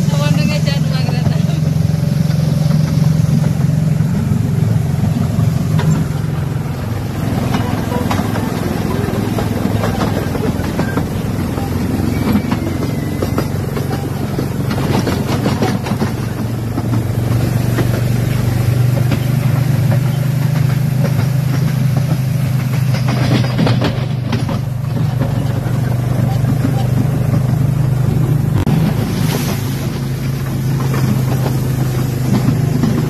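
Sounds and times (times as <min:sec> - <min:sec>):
train running low drone: 0:00.0 - 0:33.0
wheels rattling on rails: 0:00.0 - 0:33.0.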